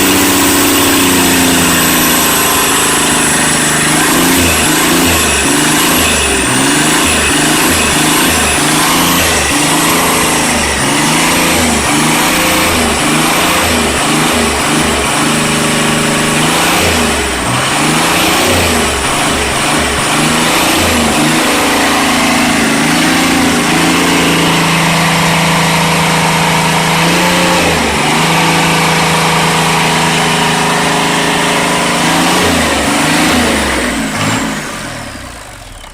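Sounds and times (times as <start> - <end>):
diesel engine revving: 0.0 - 35.9
turbo whine: 0.0 - 35.9.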